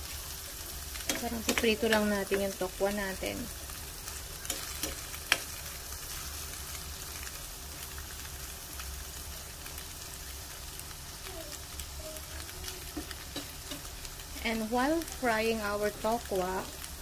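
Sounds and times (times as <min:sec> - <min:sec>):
tofu sizzling in oil: 0:00.0 - 0:17.0.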